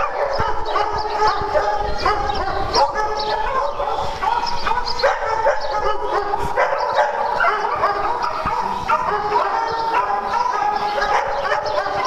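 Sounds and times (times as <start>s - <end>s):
dogs barking and yipping: 0.0s - 12.0s
dogs whining: 0.0s - 12.0s.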